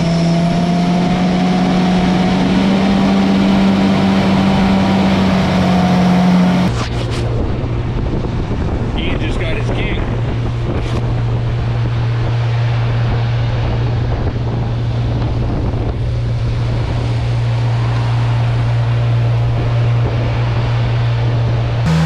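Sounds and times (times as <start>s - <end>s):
wind on microphone: 0.0s - 21.9s
boat motor running: 0.0s - 22.0s.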